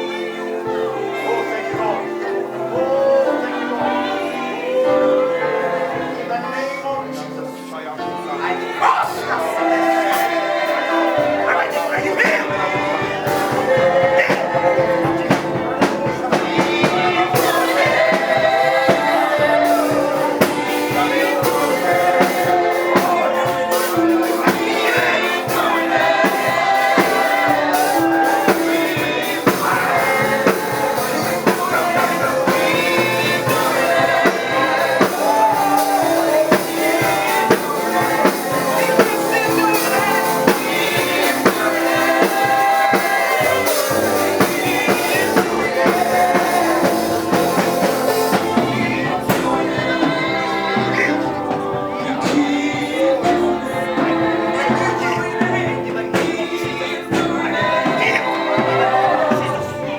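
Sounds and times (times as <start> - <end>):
gospel singing: 0.0 - 59.9
band with drums: 8.0 - 59.9.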